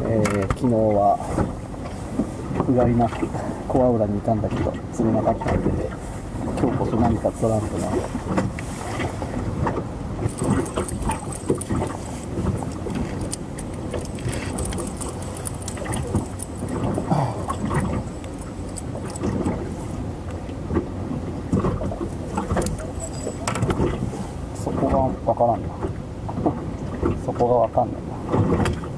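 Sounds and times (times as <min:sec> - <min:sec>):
water lapping against boat hull: 0:00.0 - 0:28.9.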